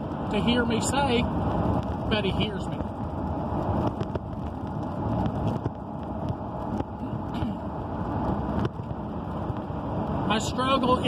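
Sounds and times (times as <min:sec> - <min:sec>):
low rumble inside car: 0:00.0 - 0:11.0.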